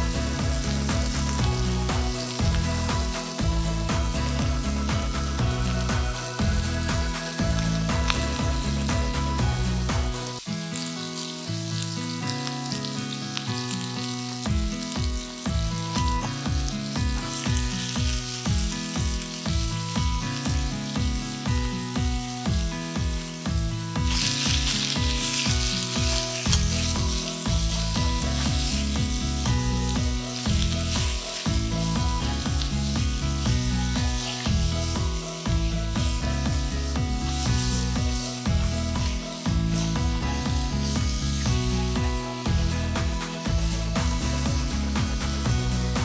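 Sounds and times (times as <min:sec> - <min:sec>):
background music with a beat: 0:00.0 - 0:11.4, 0:12.0 - 0:46.0
food sizzling in a pan: 0:00.0 - 0:46.0.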